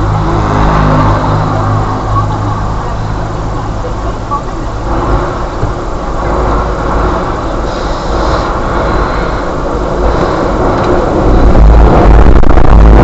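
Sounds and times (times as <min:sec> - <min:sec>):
car engine: 0:00.0 - 0:13.0
road noise: 0:00.0 - 0:13.0.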